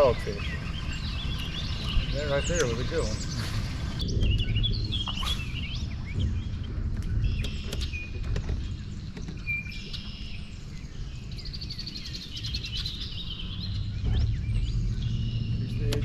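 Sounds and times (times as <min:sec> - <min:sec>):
bird trill: 0:00.0 - 0:16.0
low rumble: 0:00.0 - 0:16.0
songbirds singing and calling: 0:00.0 - 0:16.0.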